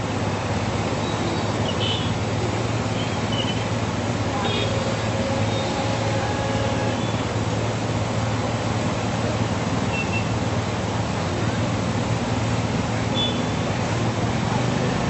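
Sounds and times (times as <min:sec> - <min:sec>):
floodwater rushing down street: 0:00.0 - 0:15.0.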